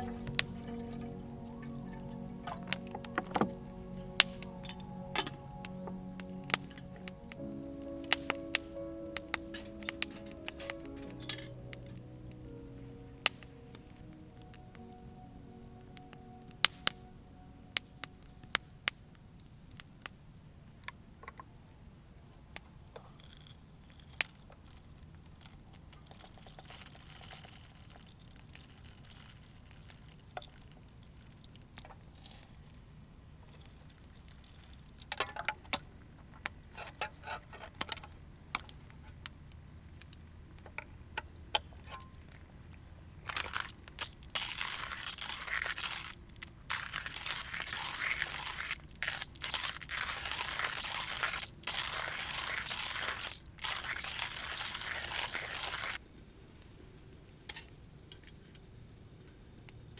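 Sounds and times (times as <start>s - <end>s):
crinkling rustling handling noise: 0.0s - 18.8s, 22.9s - 40.2s, 41.8s - 56.0s.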